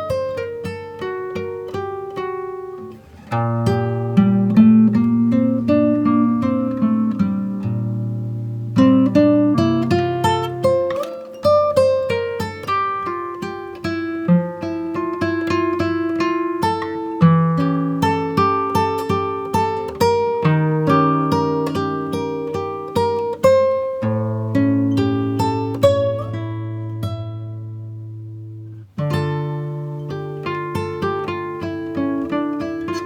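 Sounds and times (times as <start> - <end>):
acoustic guitar picked and strummed: 0.0 - 33.0.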